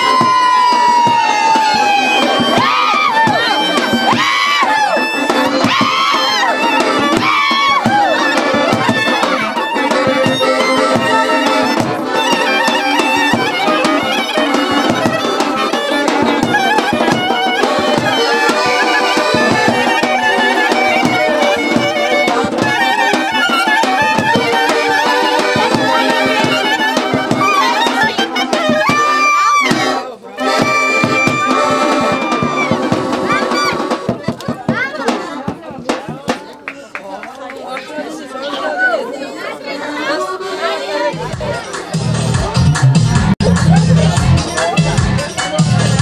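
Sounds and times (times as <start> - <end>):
folk dance music with wind melody: 0.0 - 46.0.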